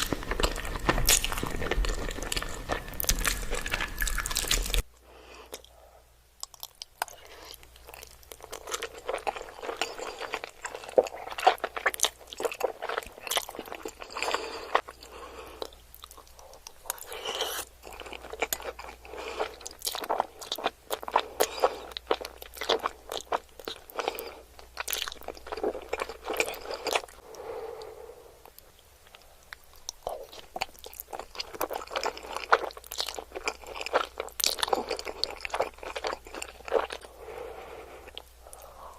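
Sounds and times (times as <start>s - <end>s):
person chewing with wet smacks: 0.0s - 4.9s, 6.4s - 27.2s, 28.4s - 37.1s.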